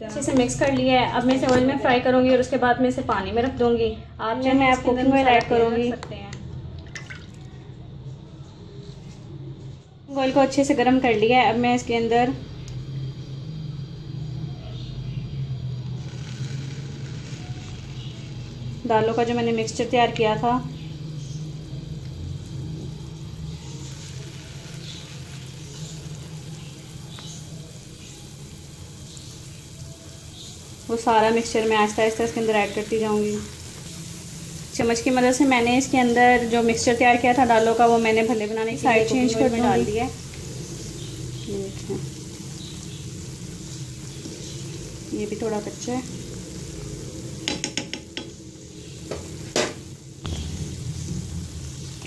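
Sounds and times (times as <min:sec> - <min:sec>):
fritters sizzling in hot oil: 0:00.0 - 0:03.8, 0:10.1 - 0:52.0.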